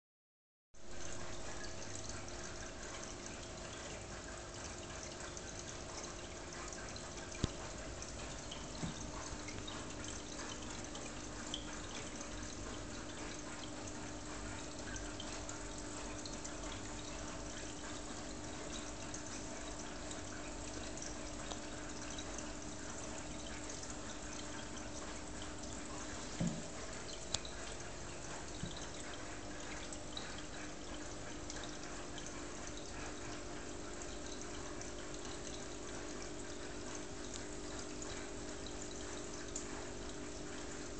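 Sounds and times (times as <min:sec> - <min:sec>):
aquarium water trickling: 0:00.8 - 0:40.9.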